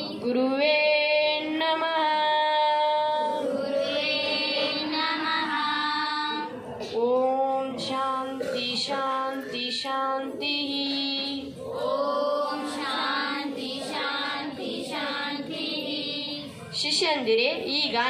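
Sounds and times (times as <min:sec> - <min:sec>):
girl chanting mantra: 0:00.0 - 0:16.8.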